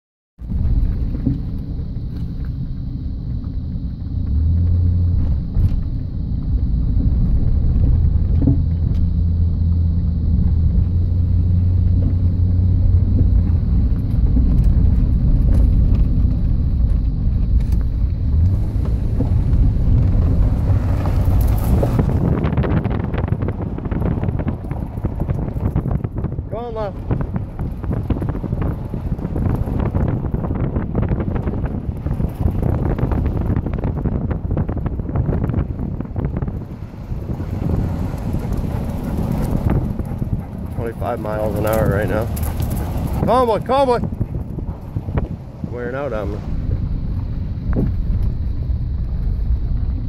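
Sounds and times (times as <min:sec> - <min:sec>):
car engine and tyre rumble: 0:00.4 - 0:50.0
gravel clicks: 0:00.4 - 0:50.0
wind noise on microphone: 0:00.4 - 0:50.0.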